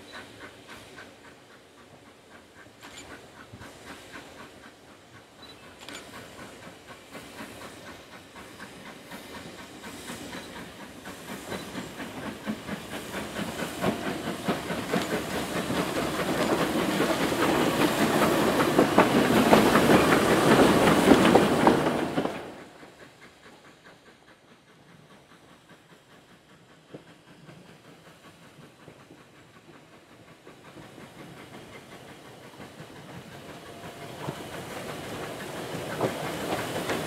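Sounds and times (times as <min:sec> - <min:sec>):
steam hissing: 0:00.0 - 0:37.0
steam locomotive exhaust beats: 0:00.0 - 0:37.0
wheels clicking on rails: 0:00.0 - 0:37.0.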